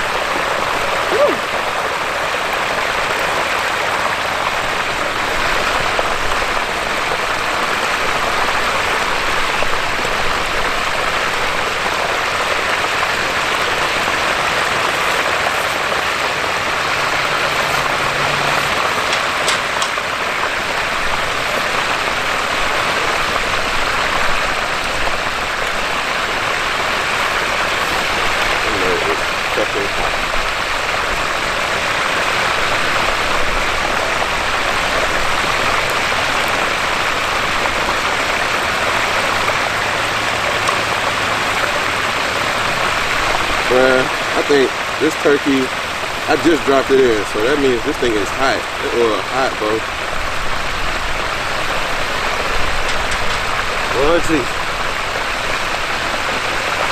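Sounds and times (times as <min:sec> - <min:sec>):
hot oil bubbling and sizzling: 0:00.0 - 0:56.9.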